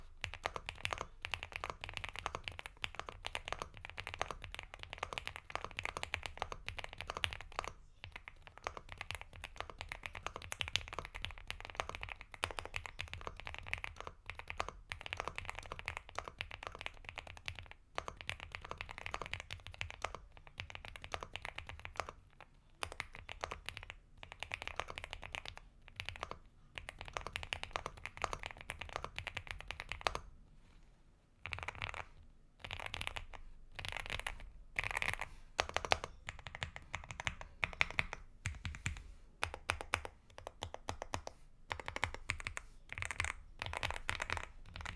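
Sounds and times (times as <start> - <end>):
fast typing on mechanical keyboard: 0.2 - 22.2, 22.8 - 30.2, 31.4 - 44.9.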